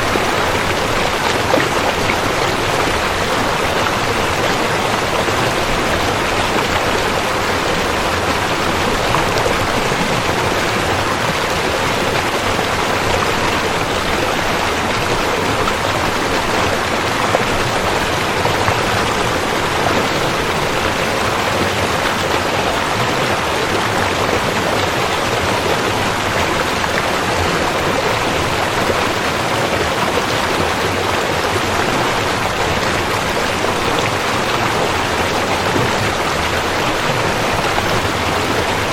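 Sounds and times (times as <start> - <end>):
river rushing water: 0.0 - 38.9.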